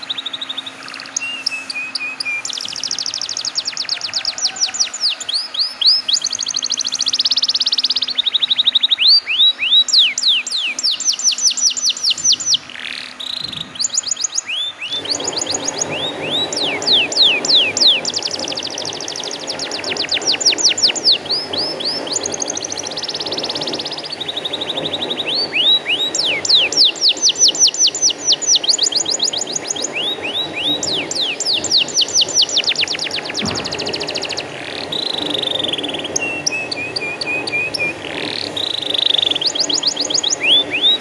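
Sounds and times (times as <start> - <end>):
canary singing: 0.0 - 41.0.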